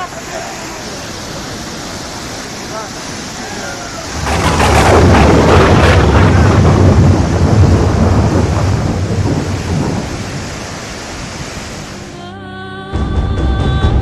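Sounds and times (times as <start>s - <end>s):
roar of churning floodwater: 0.0s - 12.1s.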